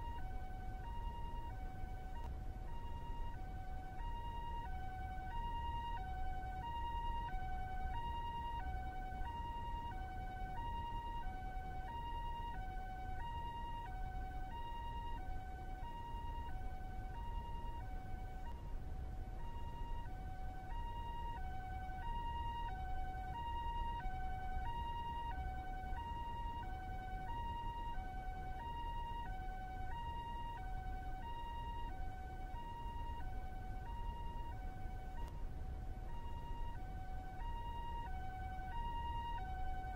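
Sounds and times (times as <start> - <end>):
two-tone ambulance siren: 0.0 - 39.9.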